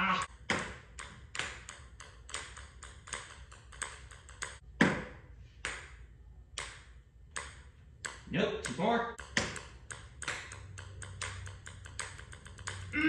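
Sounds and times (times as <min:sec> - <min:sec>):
ping pong balls bouncing on concrete: 0:00.2 - 0:13.0.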